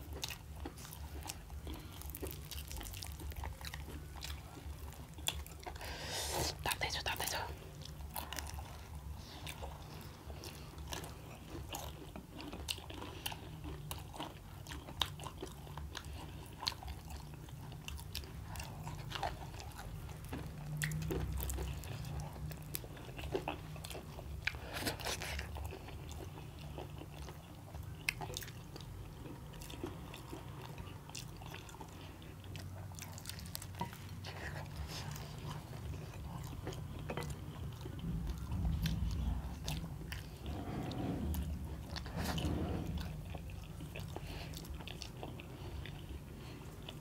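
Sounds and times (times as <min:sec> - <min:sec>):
people chewing crunchy pastry: 0:00.0 - 0:47.0.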